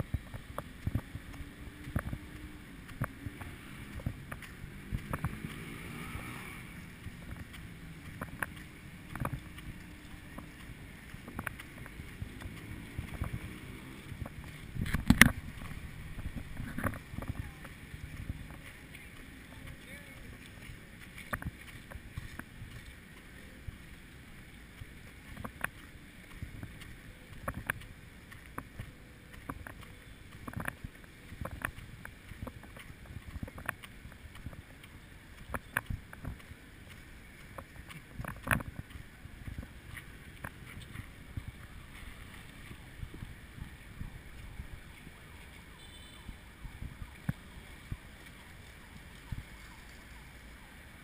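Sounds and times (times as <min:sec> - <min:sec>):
muffled footsteps and handling thumps: 0:00.0 - 0:05.8, 0:06.8 - 0:50.0.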